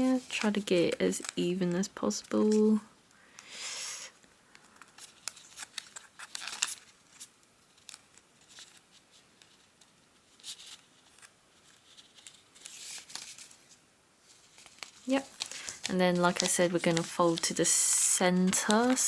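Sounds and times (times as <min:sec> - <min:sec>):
paper being folded and creased: 0:00.0 - 0:02.8, 0:04.6 - 0:19.0.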